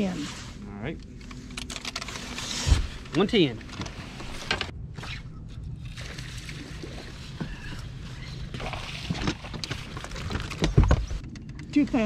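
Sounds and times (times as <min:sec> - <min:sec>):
low steady hum: 0:00.0 - 0:12.0
water sloshing against hull: 0:02.2 - 0:12.0.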